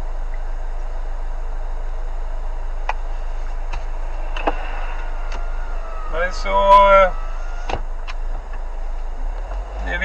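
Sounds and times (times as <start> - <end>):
car cabin hum and hiss: 0.0 - 10.0.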